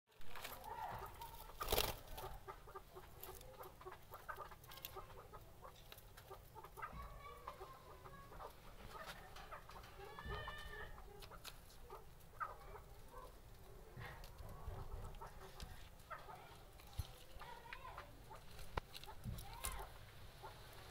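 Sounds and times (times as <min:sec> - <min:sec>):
birds calling: 0:00.2 - 0:20.9.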